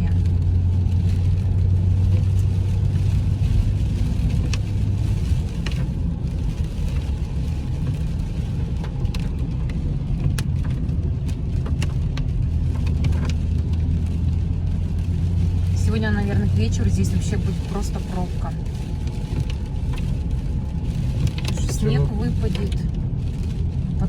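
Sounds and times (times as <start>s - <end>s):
car engine drone: 0.0s - 24.0s
tyres on road: 0.0s - 24.0s.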